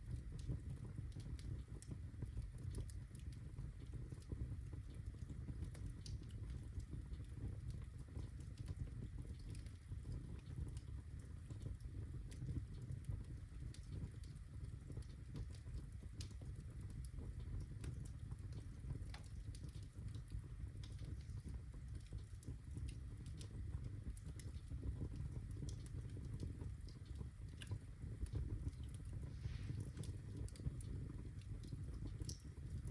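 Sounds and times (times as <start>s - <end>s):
fire crackling and popping: 0.0s - 32.9s
fire rumbling: 0.0s - 32.9s.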